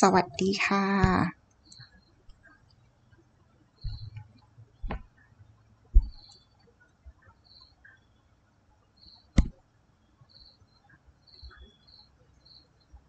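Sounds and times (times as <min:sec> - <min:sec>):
faint high-pitched chirps: 0:00.2 - 0:13.0.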